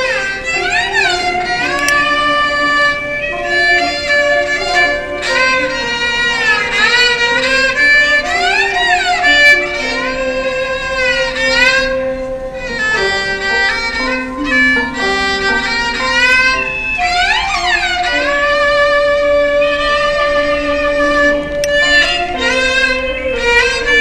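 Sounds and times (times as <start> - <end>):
bowed string melody: 0.0 - 24.0
held accompanying notes: 0.0 - 24.0.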